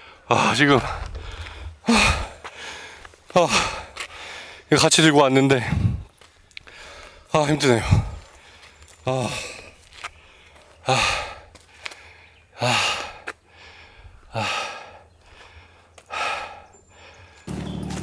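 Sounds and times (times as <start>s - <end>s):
person breathing hard: 0.0s - 4.7s, 5.6s - 17.5s.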